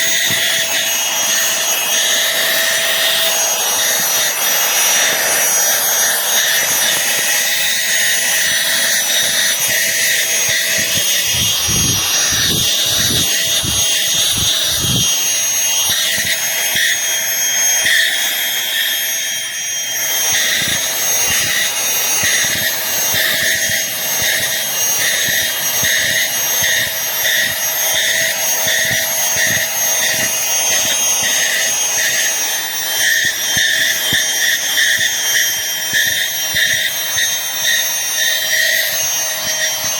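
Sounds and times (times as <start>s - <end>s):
handheld vacuum cleaner whining: 0.0s - 39.9s.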